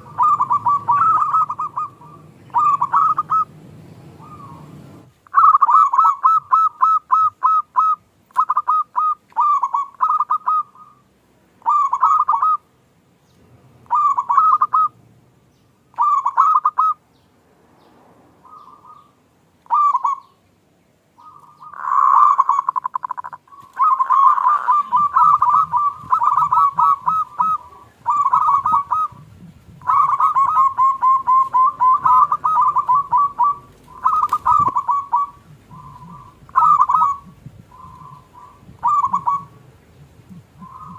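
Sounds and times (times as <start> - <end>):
dove cooing: 0.0 - 12.7, 13.8 - 15.0, 15.9 - 17.0, 18.4 - 20.4, 21.2 - 40.9.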